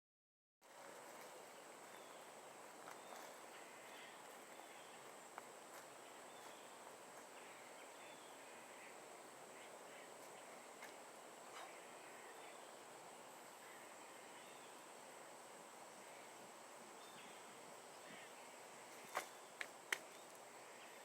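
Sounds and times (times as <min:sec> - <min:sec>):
steady high-pitched whine: 0:00.6 - 0:21.0
faint chirps: 0:01.0 - 0:21.0.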